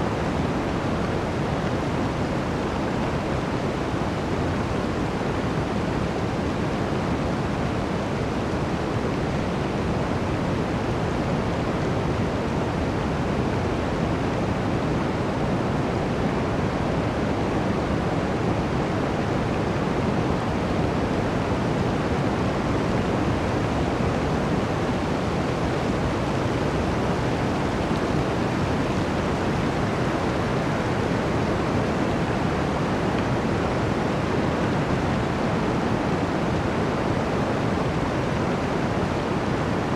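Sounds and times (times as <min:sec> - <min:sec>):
blizzard wind blowing: 0:00.0 - 0:39.9.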